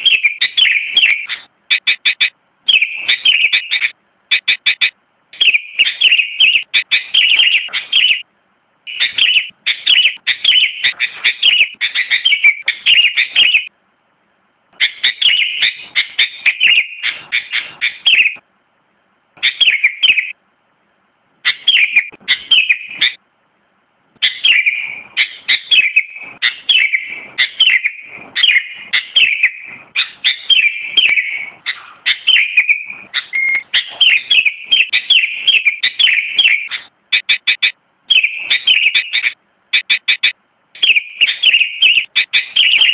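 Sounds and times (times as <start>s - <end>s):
bird chirping song: 0.0s - 8.3s, 8.9s - 13.7s, 14.8s - 18.4s, 19.4s - 20.4s, 21.4s - 23.2s, 24.2s - 42.9s.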